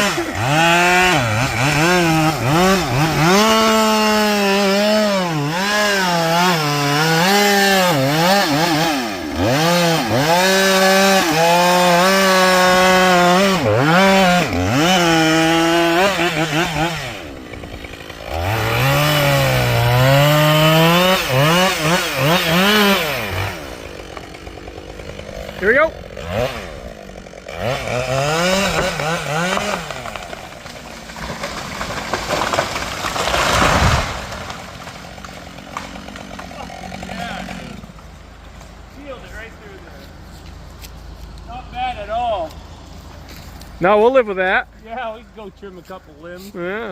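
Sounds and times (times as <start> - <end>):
chainsaw cutting wood: 0.0 - 43.8.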